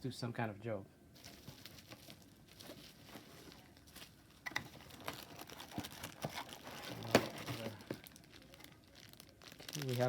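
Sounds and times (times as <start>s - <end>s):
packaging rustling and crinkling: 1.2s - 10.0s.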